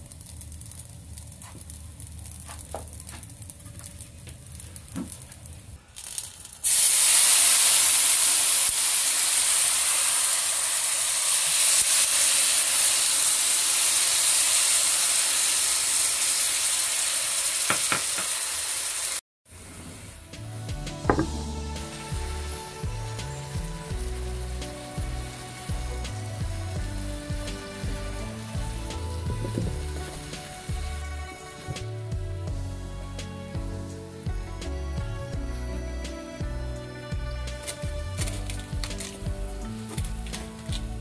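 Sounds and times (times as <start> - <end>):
oil sizzling in frying pan: 0.0 - 32.6, 37.6 - 41.0.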